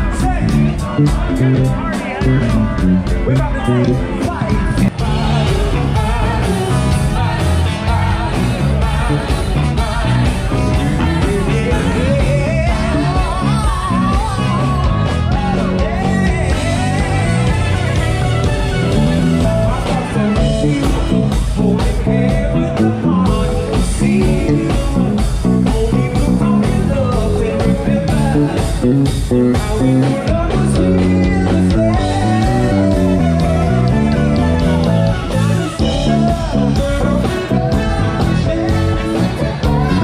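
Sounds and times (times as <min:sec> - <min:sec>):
lead vocalist singing: 0:00.0 - 0:40.0
soul band playing: 0:00.0 - 0:40.0.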